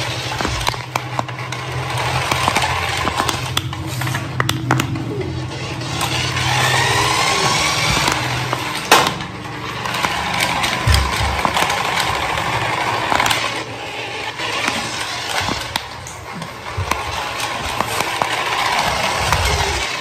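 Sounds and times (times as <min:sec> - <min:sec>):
plastic wheels rolling on tiles: 0:00.0 - 0:20.0
toy car motor whirring: 0:00.0 - 0:20.0.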